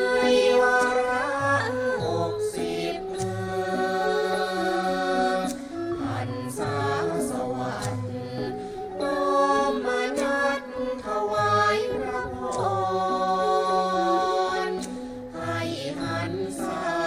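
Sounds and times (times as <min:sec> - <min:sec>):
bamboo flute: 0:00.0 - 0:17.0
women's chorus singing: 0:00.0 - 0:17.0.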